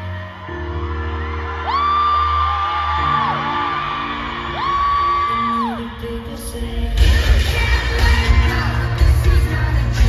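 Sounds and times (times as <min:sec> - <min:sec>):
live pop music: 0:00.0 - 0:10.0.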